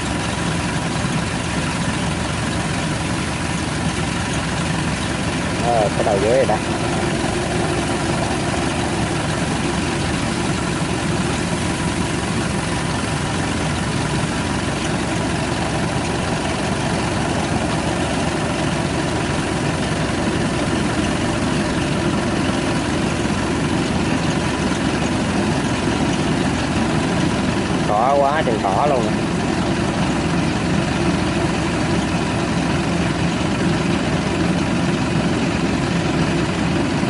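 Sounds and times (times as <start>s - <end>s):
harvester engine and machinery drone: 0.0s - 37.0s.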